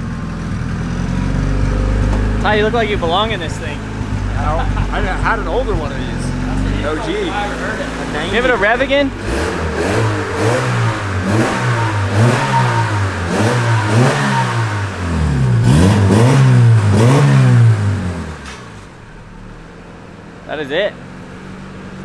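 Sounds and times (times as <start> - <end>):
car engine revving in blips: 0.0 - 20.2.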